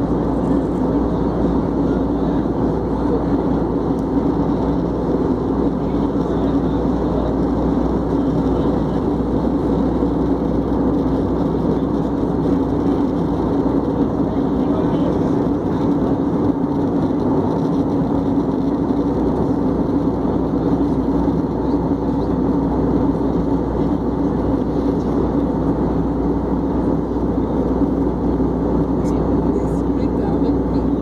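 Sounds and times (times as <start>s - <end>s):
aircraft engine drone: 0.0s - 31.0s
steady low hum: 0.0s - 31.0s.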